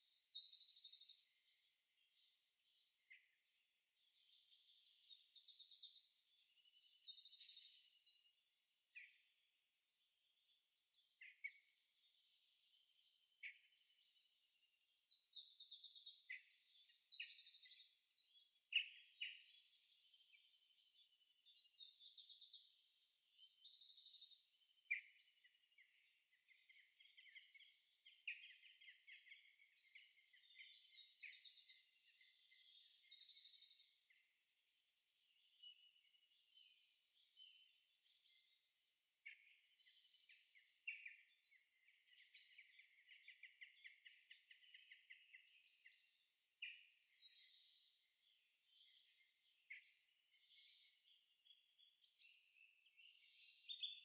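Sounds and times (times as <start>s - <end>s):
songbirds warbling: 0.0s - 54.0s.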